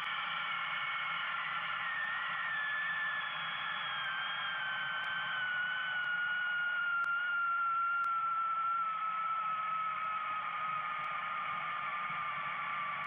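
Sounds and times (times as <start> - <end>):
high whistle falling in pitch: 0.0 - 13.0.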